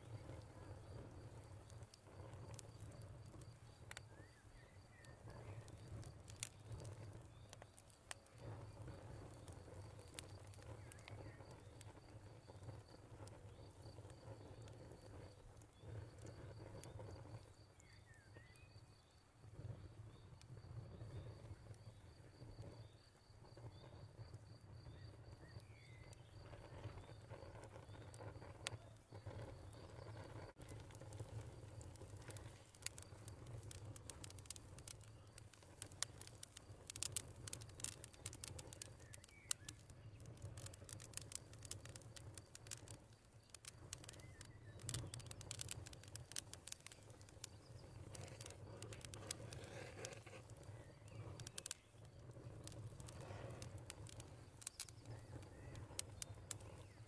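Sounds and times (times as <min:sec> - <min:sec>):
light ticks and patters: 0:00.0 - 0:18.5, 0:19.4 - 0:57.0
faint bird chirps: 0:03.6 - 0:31.5, 0:36.9 - 0:57.0.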